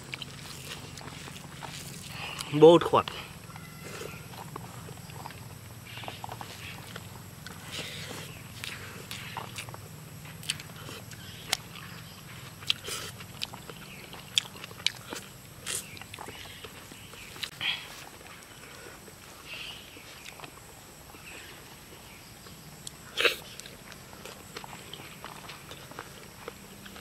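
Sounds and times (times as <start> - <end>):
man chewing with lip smacks: 0.0 - 27.0.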